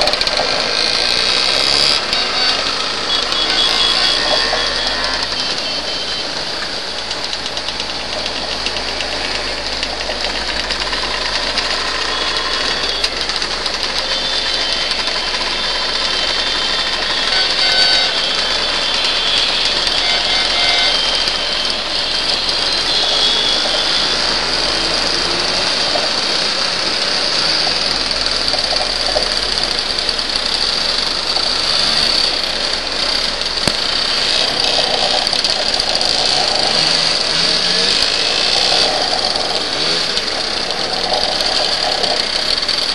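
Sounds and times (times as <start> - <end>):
other scooters running alongside: 0.0 - 42.9
scooter engine running: 0.0 - 42.9.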